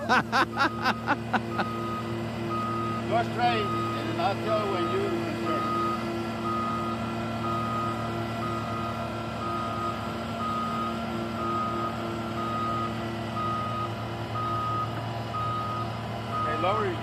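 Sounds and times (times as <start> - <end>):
diesel engine running: 0.0 - 17.0
backup alarm beeping: 0.5 - 16.8.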